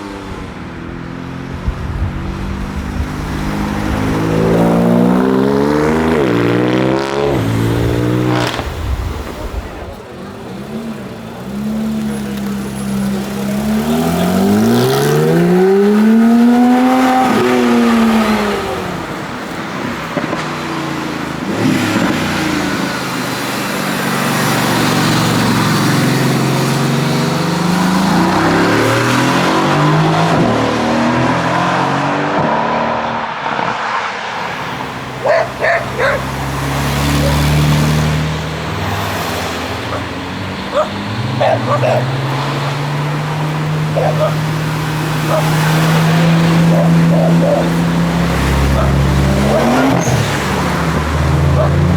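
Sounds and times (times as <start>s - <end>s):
sports car engines revving: 0.0s - 51.9s.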